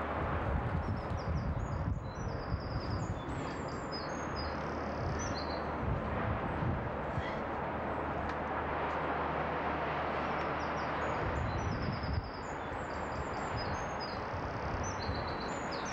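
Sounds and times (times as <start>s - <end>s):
low outdoor rumble: 0.0s - 15.9s.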